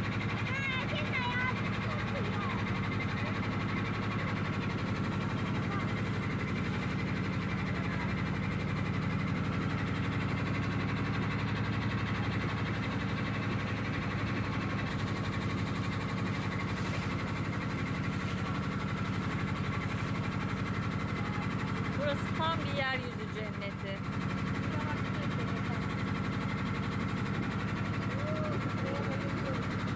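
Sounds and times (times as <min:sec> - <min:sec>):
boat engine humming: 0:00.0 - 0:29.9.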